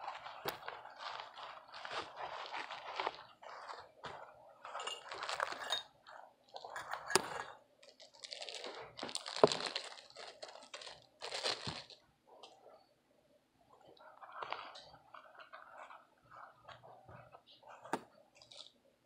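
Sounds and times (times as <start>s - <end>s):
rustling and scraping: 0.0s - 12.9s, 13.8s - 18.8s.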